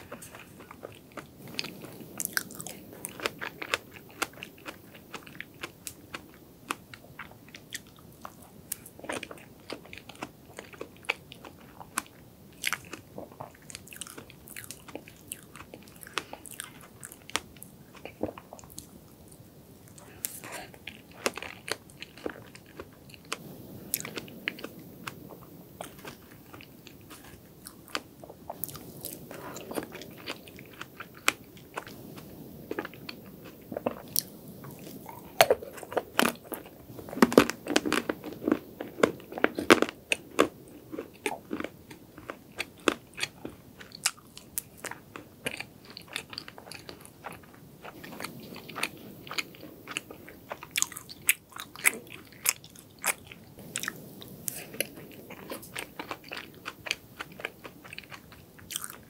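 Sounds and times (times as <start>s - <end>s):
chewing and crunching cake: 0.0s - 59.0s.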